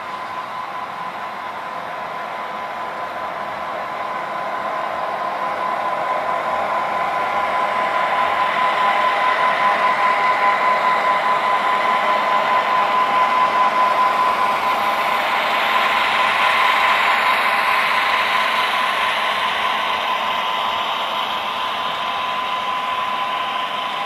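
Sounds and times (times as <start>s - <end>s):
model diesel engine drone: 0.0s - 24.0s.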